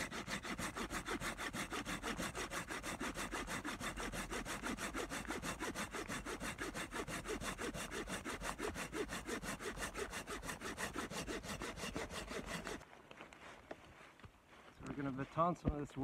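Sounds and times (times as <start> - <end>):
hand saw cutting through log: 0.0 - 12.8.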